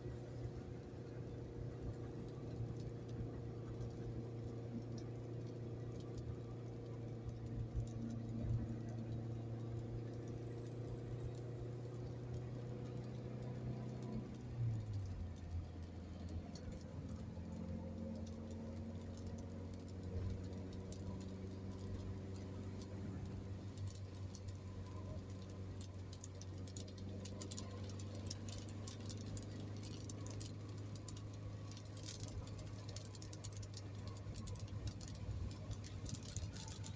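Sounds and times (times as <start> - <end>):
car driving at highway speed: 0.0 - 36.9
raindrops ticking on vehicle: 0.0 - 36.9.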